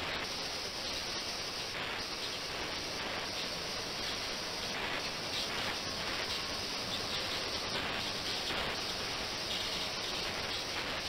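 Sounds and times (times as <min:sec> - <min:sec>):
ultrasonic water tank hissing: 0:00.0 - 0:11.0.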